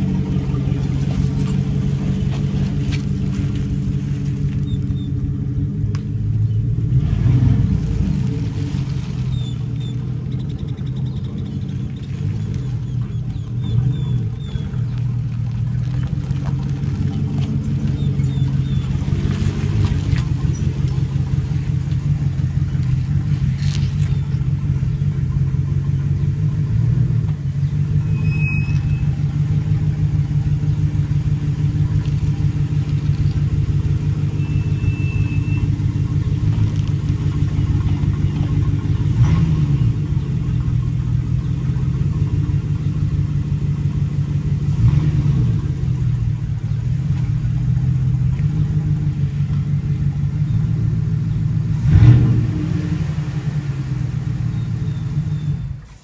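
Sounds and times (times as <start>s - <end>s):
pickup exhaust idling: 0.0s - 56.0s.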